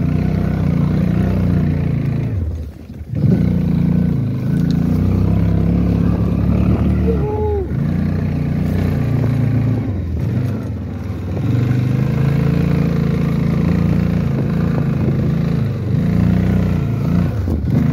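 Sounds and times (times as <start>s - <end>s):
motorcycle engine under throttle: 0.0s - 17.9s.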